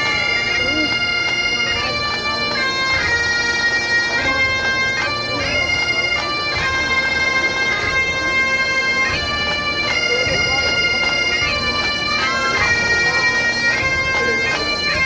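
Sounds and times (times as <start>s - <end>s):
bagpipes playing slow tune: 0.0s - 15.0s.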